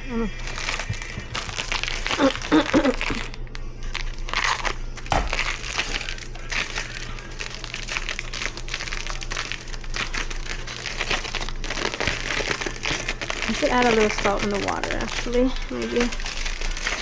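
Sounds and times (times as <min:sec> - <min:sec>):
steady low hum: 0:00.0 - 0:17.0
rustling and crackling handling noise: 0:00.4 - 0:17.0.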